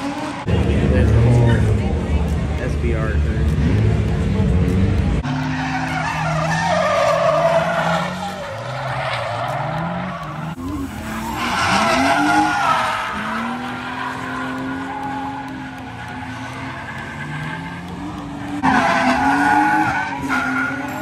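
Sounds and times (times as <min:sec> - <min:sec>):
car engine revving: 0:00.0 - 0:21.0
tires squealing: 0:00.0 - 0:21.0.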